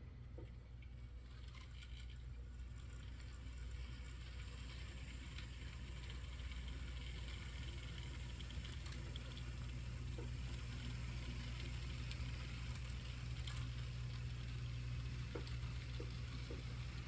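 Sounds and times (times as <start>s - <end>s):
model train motor hum: 0.8s - 17.0s.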